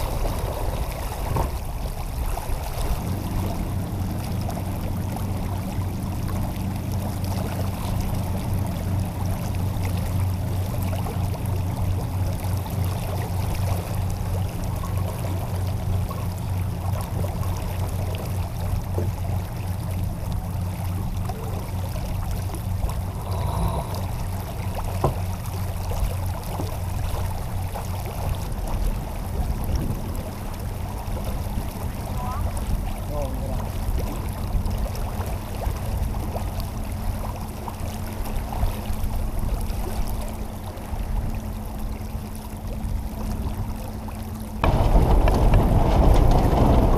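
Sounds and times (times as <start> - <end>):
steady low rumble: 0.0 - 46.9
water rushing along hull: 0.0 - 46.9.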